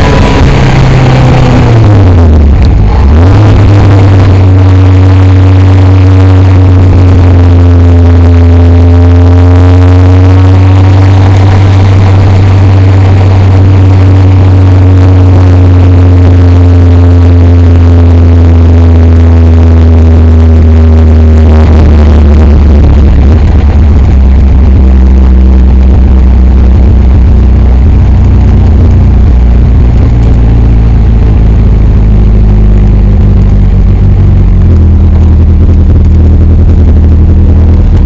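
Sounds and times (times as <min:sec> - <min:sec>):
loud car engine: 0:00.0 - 0:38.0.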